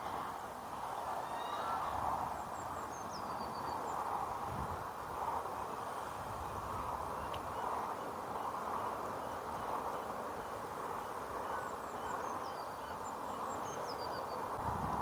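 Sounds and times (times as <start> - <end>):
wind noise on microphone: 0.0 - 13.0, 13.6 - 15.0.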